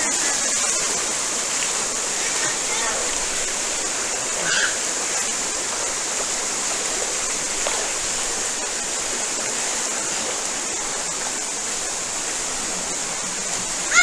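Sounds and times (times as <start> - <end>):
waterfall splashing over rocks: 0.0 - 14.0.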